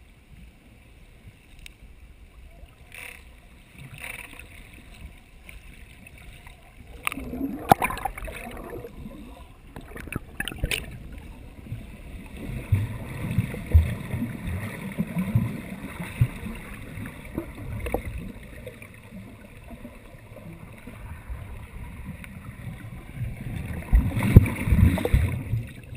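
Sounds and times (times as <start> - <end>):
muffled underwater rumble: 0.0 - 25.9.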